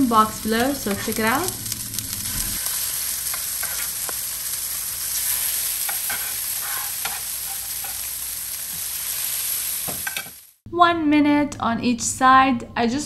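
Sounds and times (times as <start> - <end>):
fish sizzling in a hot pan: 0.1 - 10.6.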